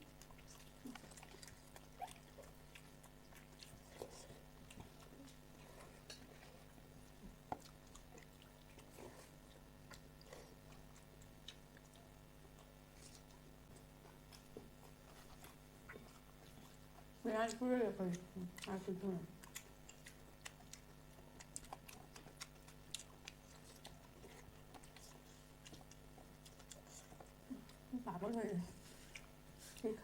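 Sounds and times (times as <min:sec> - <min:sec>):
chewing sounds: 0:00.0 - 0:30.0
low electrical hum: 0:00.0 - 0:30.0.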